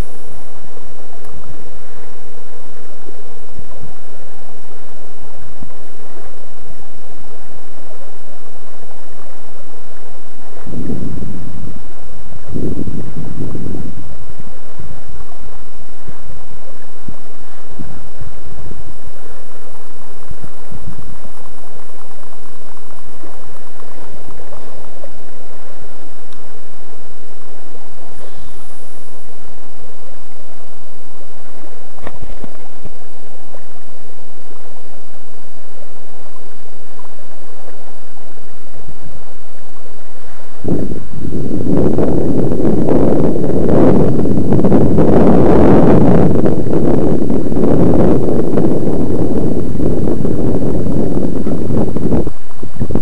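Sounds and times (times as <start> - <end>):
faint high whine: 0.0 - 53.0
wind on microphone: 0.0 - 53.0.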